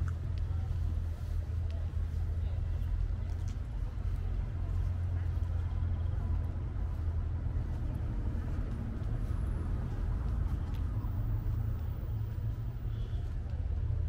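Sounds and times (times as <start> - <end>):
city street low rumble: 0.0 - 14.0.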